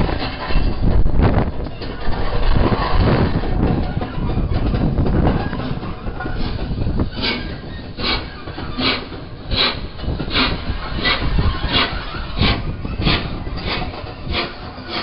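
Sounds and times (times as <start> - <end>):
steam locomotive exhaust beats: 0.0 - 15.0
train wheels clattering on track: 0.0 - 15.0.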